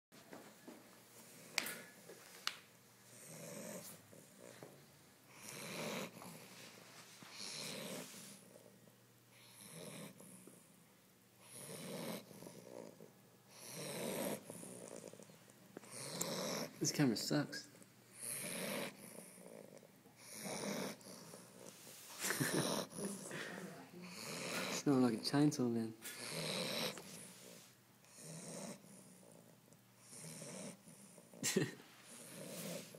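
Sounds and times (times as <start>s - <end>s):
dog snoring: 3.1s - 10.8s, 11.4s - 16.9s, 17.6s - 25.0s, 26.1s - 32.9s.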